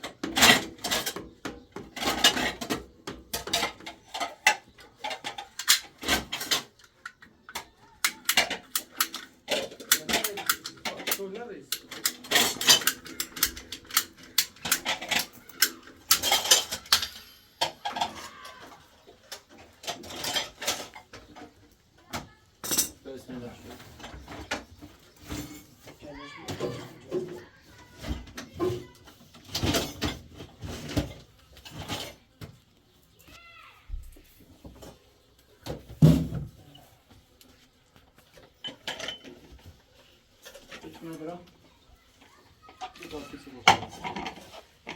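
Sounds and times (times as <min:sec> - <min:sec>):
hard objects clattering: 0:00.0 - 0:33.4, 0:38.0 - 0:44.9.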